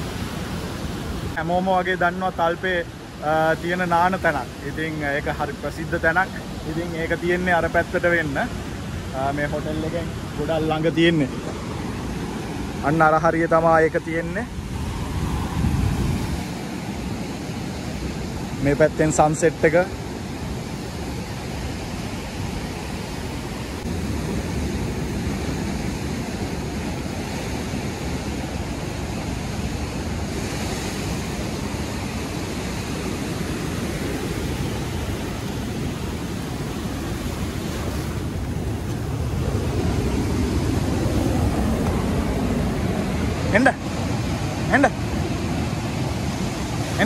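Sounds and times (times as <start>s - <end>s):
waves breaking on sand: 0.0s - 47.0s.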